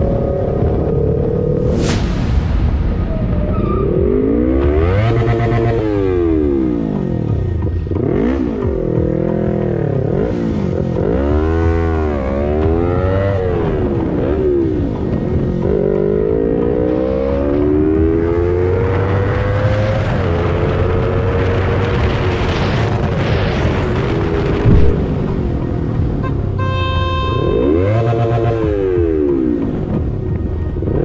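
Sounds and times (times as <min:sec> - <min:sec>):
vehicle engine revving: 0:03.5 - 0:30.0.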